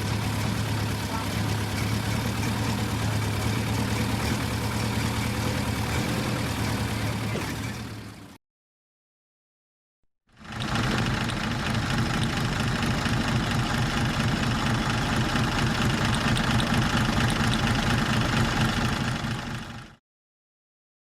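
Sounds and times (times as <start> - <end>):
car engine idling: 0.0 - 8.3, 10.4 - 20.0.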